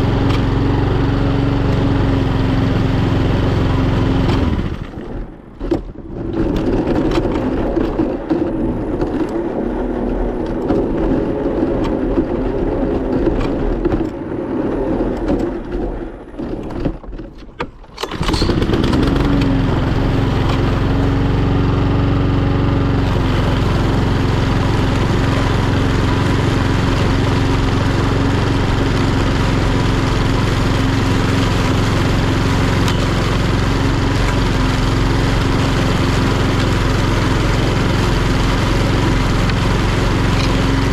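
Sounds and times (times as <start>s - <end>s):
lawnmower engine running: 0.0s - 13.7s, 14.6s - 40.9s.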